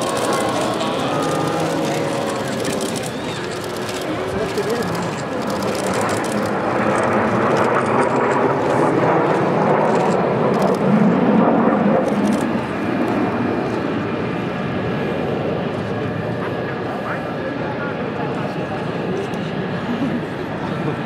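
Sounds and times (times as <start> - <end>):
jet engines flying overhead: 0.0 - 21.0.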